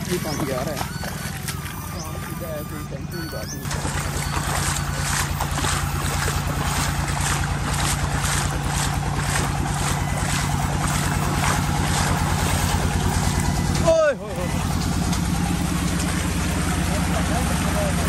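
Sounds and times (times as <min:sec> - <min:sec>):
pump engine droning: 0:00.0 - 0:18.0
water gushing: 0:00.0 - 0:18.0.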